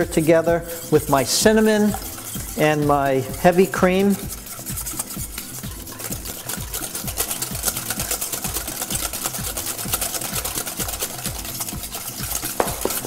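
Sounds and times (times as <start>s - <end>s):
whisk clinking in metal bowl: 0.0s - 13.0s.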